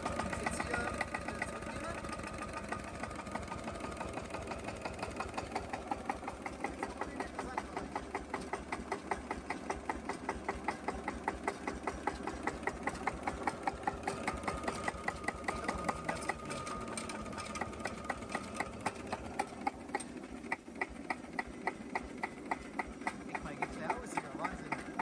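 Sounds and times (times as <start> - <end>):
diesel engine idling slowly: 0.0 - 25.0.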